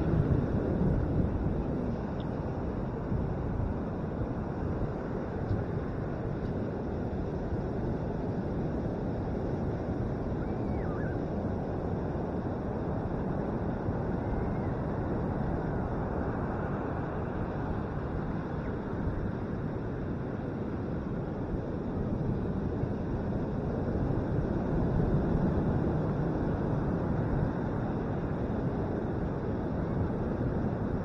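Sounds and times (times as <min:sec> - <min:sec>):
ocean surf breaking on beach: 0:00.0 - 0:31.0
wind on microphone: 0:00.0 - 0:31.0.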